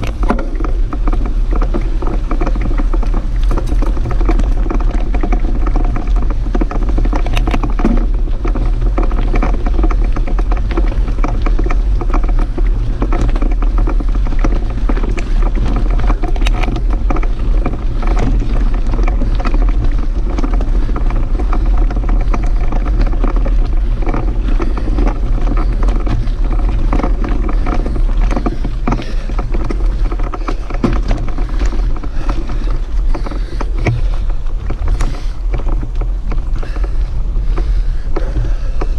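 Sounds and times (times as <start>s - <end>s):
bike tyres on gravel: 0.0s - 38.9s
small clicks and rattles: 0.0s - 38.9s
wind rumble on microphone: 0.0s - 38.9s.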